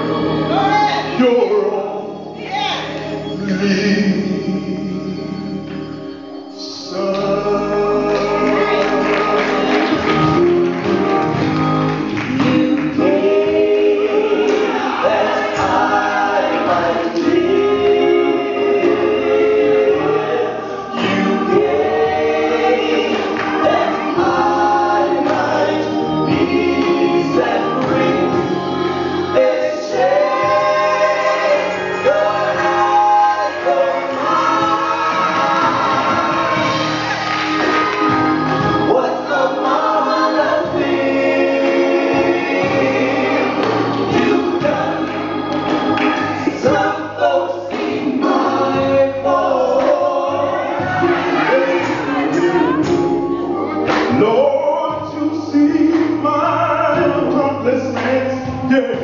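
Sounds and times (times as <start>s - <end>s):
gospel choir singing: 0.0s - 59.0s
organ: 0.0s - 59.0s
soloists singing into microphones: 0.0s - 59.0s.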